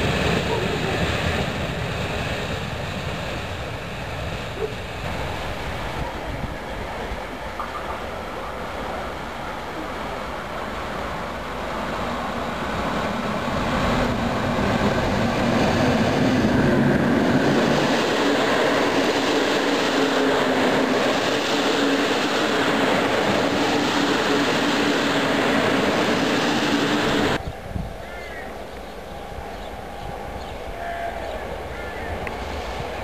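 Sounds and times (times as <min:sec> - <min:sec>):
passenger train passing: 0:00.0 - 0:33.0.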